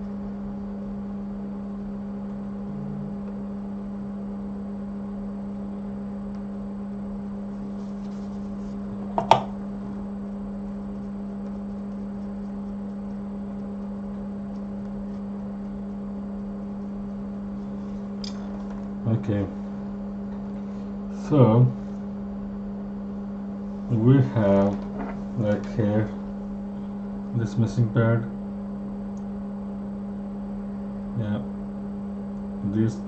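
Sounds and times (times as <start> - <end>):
low electric hum: 0.0 - 33.0.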